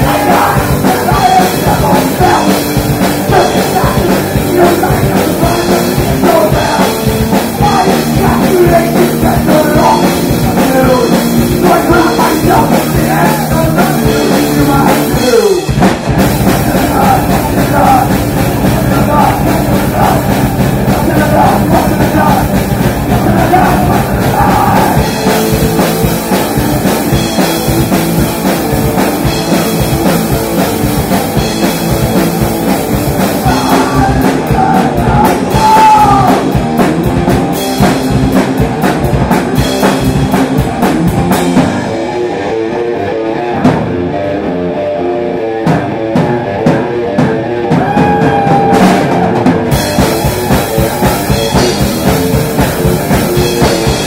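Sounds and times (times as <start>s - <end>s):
live metal band playing: 0.0s - 54.0s.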